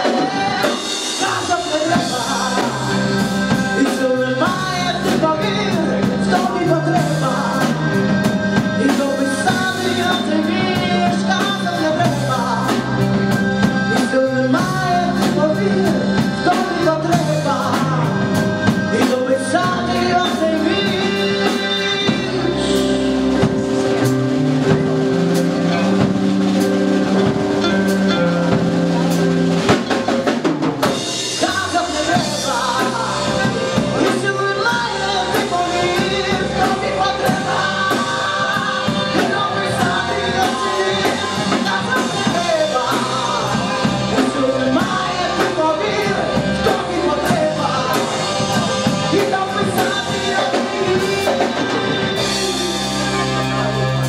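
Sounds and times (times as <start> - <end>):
woman singing: 0.0 - 23.6, 31.4 - 53.8
accordion playing: 0.0 - 54.0
drum kit playing: 0.0 - 54.0.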